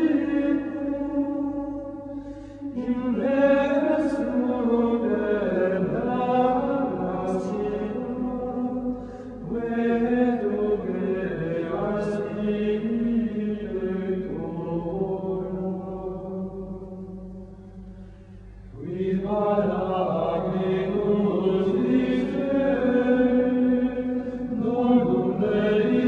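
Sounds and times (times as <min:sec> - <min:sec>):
slow sung chant: 0:00.0 - 0:26.0.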